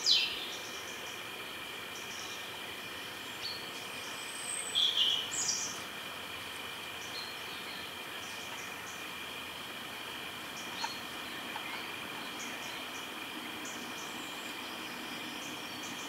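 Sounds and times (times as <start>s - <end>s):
faint high hum: 0.0s - 16.0s
steady hiss: 0.0s - 16.0s
wild birds chirping: 0.0s - 16.0s.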